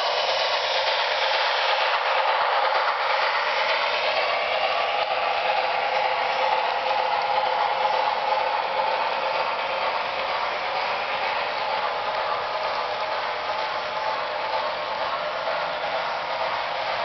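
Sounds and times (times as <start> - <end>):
model train coaches rolling on track: 0.0 - 17.0.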